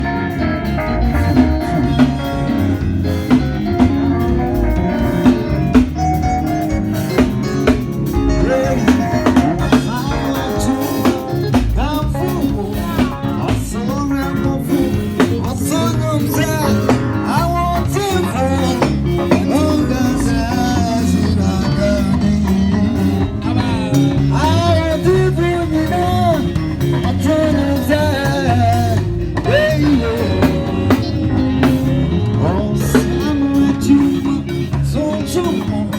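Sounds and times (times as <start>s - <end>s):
drum kit: 0.0s - 35.9s
electric guitar: 0.0s - 35.9s.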